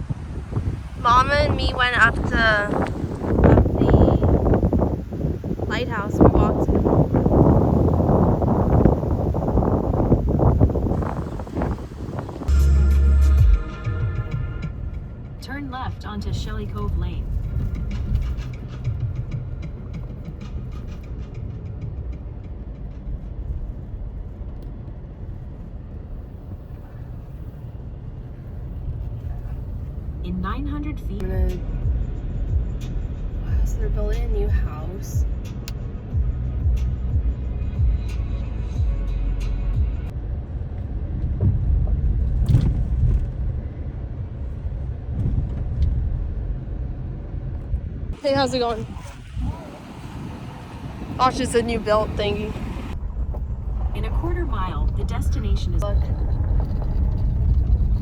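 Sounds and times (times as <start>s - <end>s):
car cabin road noise: 0.0s - 58.0s.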